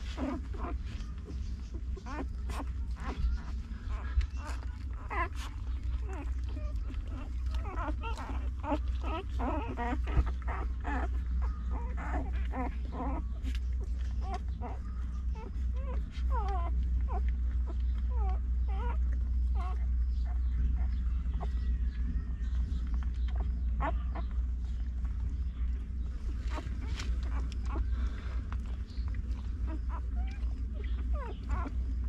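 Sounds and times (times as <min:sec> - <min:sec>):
puppies squeaking and whimpering: 0:00.0 - 0:32.0
steady low hum: 0:00.0 - 0:32.0.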